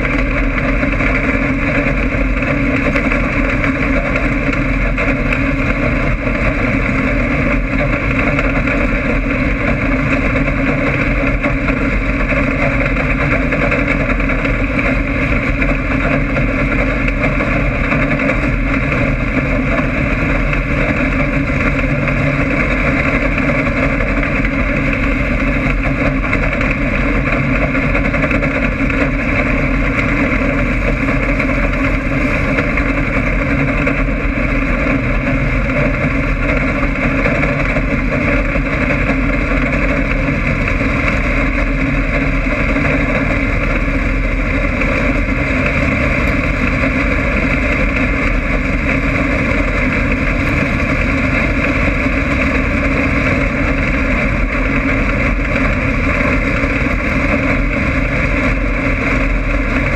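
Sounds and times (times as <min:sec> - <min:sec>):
race car engine droning: 0:00.0 - 0:59.9.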